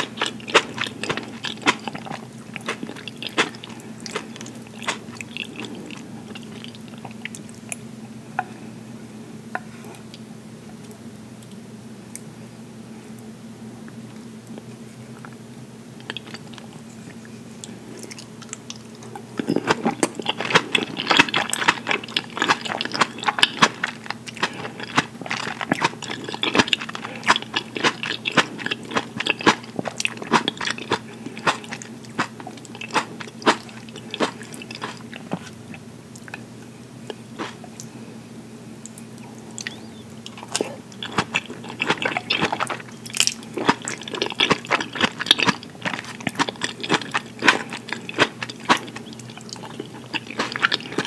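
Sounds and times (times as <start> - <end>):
chewing with mouth clicks: 0.0 - 7.8, 16.0 - 36.5, 37.1 - 38.0, 38.8 - 51.0.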